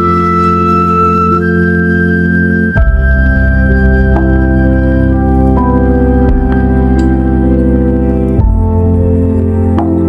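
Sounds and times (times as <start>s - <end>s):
slow organ-like chords: 0.0s - 10.0s.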